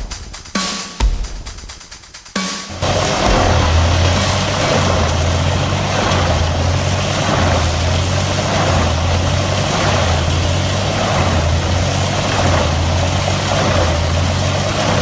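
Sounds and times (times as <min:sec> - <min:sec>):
heavy machinery engine running: 0:02.7 - 0:15.0.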